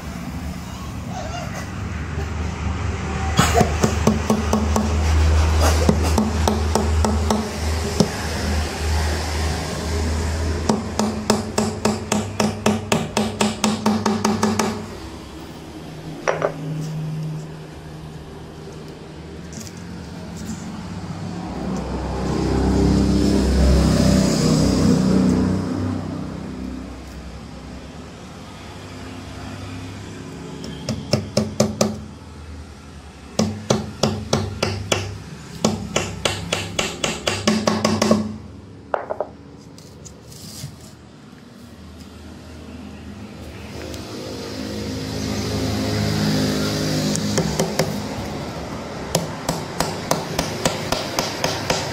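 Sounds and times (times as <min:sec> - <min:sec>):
vehicle rumble: 0:00.0 - 0:30.9, 0:38.2 - 0:51.9.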